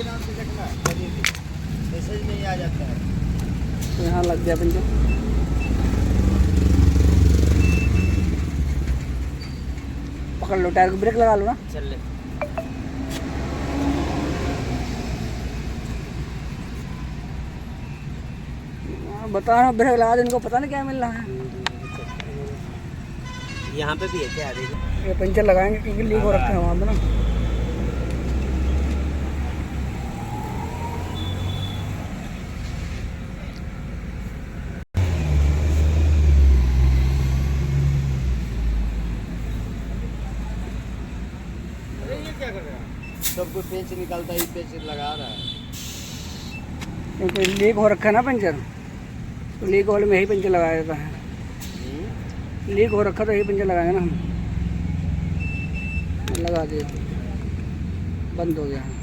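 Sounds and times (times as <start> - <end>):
vehicle rumble: 0.0 - 23.2, 24.7 - 44.6, 45.8 - 59.0.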